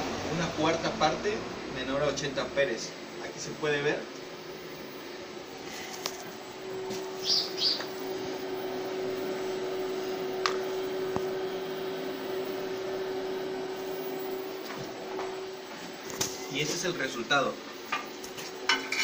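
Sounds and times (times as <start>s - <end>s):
cooling fan whirring: 0.0s - 19.0s
steady hum tone: 0.0s - 19.0s.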